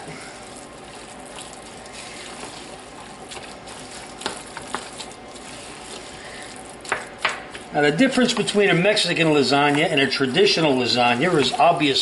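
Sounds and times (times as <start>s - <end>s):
spoon stirring wet mixture: 0.0s - 12.0s.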